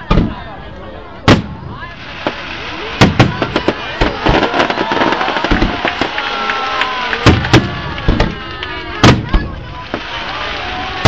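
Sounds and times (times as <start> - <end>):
fireworks bangs: 1.2 - 11.0
fireworks crackling: 1.2 - 11.0.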